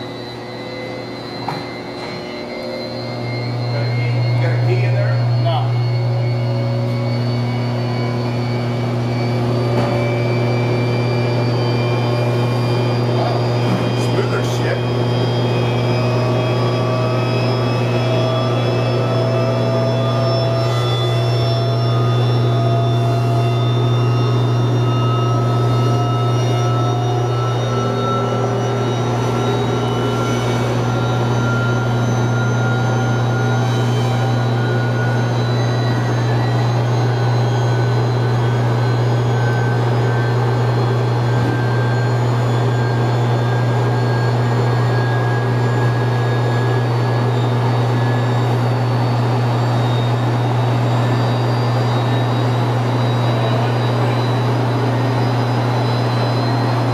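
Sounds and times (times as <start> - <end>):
electric motor humming: 0.0 - 56.9
whining tones rising in pitch: 0.0 - 56.9.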